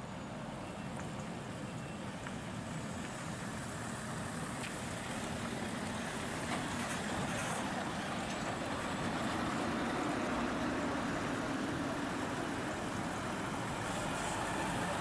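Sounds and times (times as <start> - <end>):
truck diesel engine running: 2.4 - 15.0.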